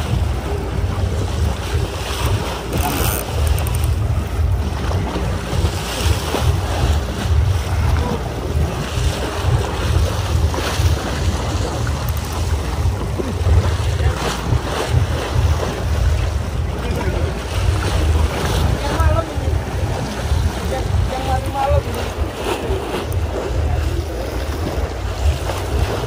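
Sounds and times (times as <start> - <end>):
boat noise: 0.0 - 26.0
waves washing: 0.0 - 26.0
wind buffeting microphone: 0.0 - 26.0.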